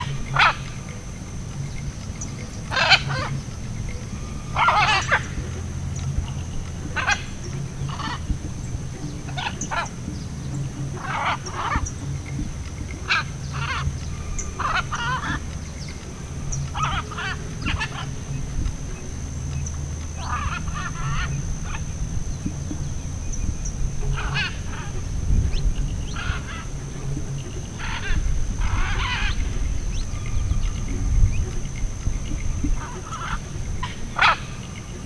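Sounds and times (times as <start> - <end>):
bird harsh raspy calls: 0.0 - 35.0
steady low hum: 0.0 - 35.0.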